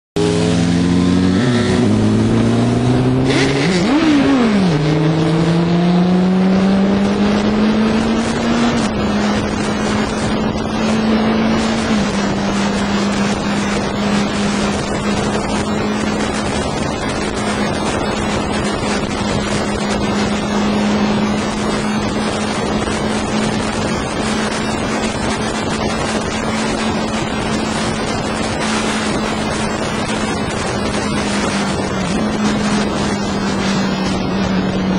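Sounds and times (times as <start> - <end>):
motorcycle engine accelerating: 0.2 - 34.9
wind and road noise: 0.2 - 34.9.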